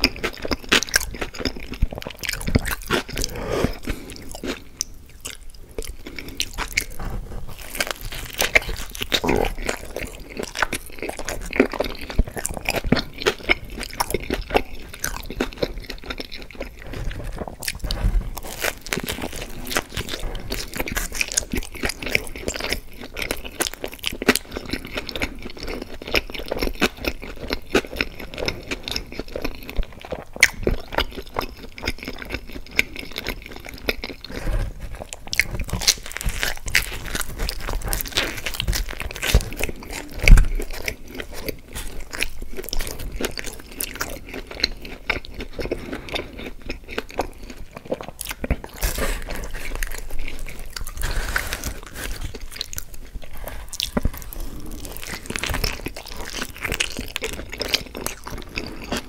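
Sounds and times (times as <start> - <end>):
wet mouth sounds: 0.0 - 25.2, 29.0 - 59.0
chewing and crunching food: 0.0 - 59.0.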